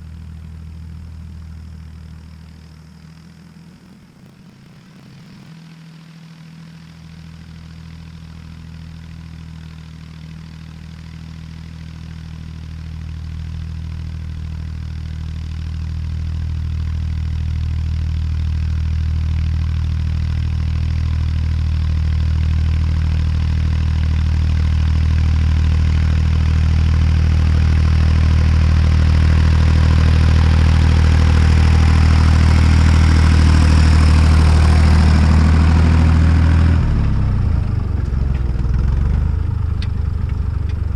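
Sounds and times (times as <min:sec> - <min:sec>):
tractor diesel engine running: 0:07.1 - 0:40.9.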